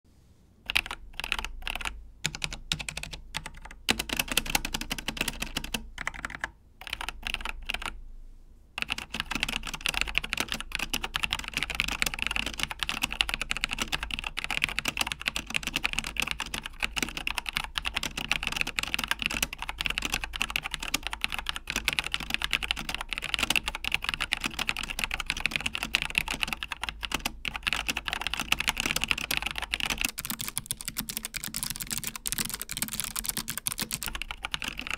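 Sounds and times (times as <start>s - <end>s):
mechanical keyboard typing: 0.7s - 8.0s, 8.8s - 34.9s.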